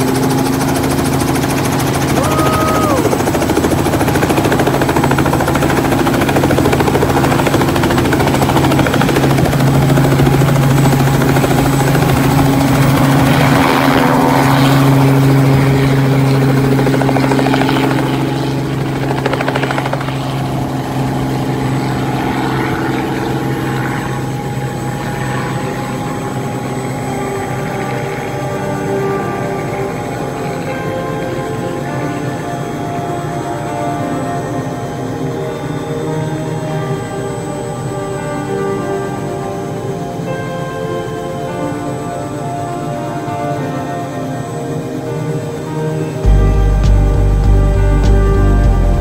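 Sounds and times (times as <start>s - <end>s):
helicopter engine and rotor: 0.0s - 49.0s.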